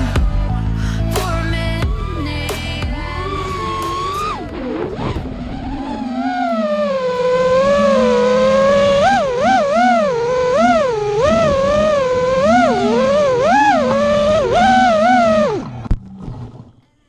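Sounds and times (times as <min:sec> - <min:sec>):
drone motor whine: 0:01.5 - 0:16.9.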